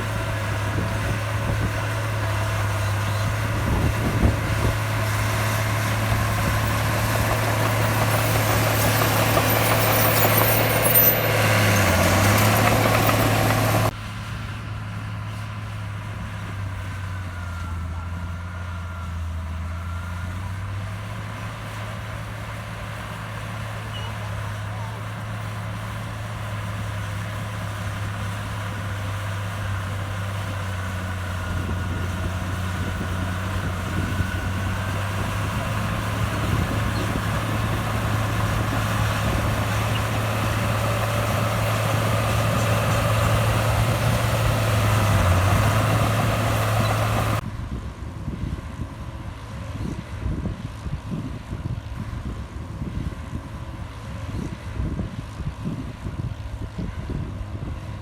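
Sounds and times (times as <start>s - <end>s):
heavy diesel engine humming: 0.0s - 58.0s.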